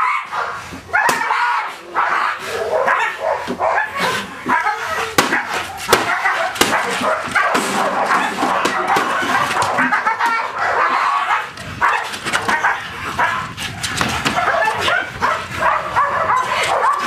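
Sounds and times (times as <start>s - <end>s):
dog barking: 0.0s - 17.0s.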